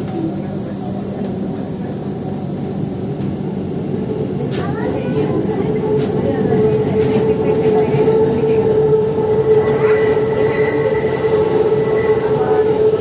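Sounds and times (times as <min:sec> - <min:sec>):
metro train rumble and whine: 0:00.0 - 0:13.0.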